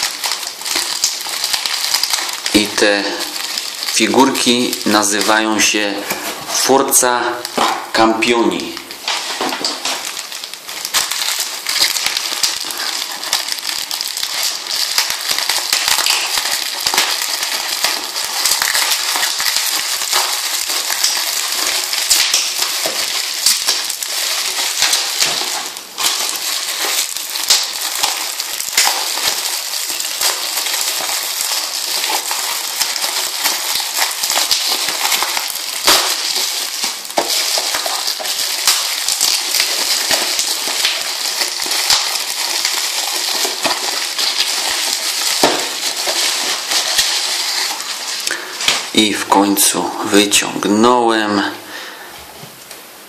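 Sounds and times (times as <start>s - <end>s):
bubble wrap and paper crinkling: 0.0s - 51.6s.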